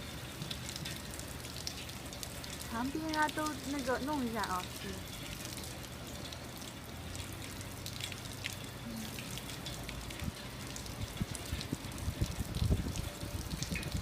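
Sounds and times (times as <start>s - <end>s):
small drips: 0.0s - 14.0s
water trickling: 0.0s - 14.0s.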